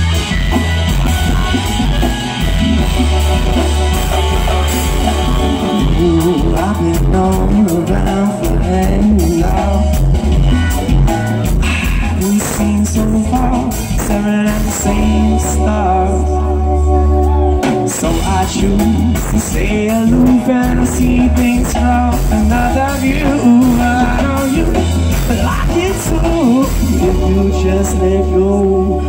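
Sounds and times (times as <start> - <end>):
live band playing: 0.0 - 29.0
person singing: 0.0 - 29.0.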